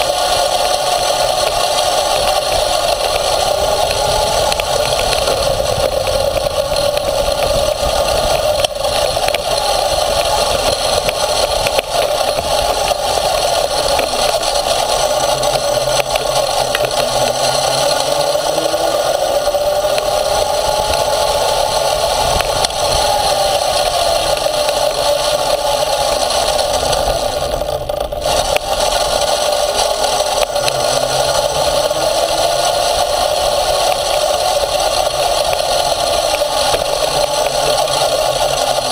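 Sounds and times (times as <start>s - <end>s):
rattling and scraping over dirt: 0.0s - 38.9s
small motor revving: 0.0s - 38.9s.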